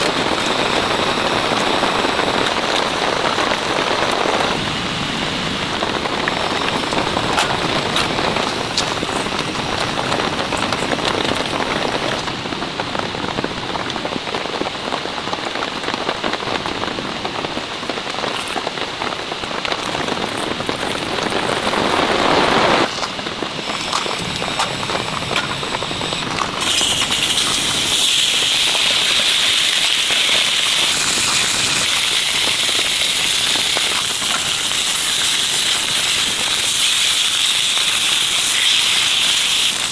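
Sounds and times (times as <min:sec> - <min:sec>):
raindrops ticking: 0:00.0 - 0:12.3, 0:14.9 - 0:39.9
heavy rain: 0:00.0 - 0:39.9.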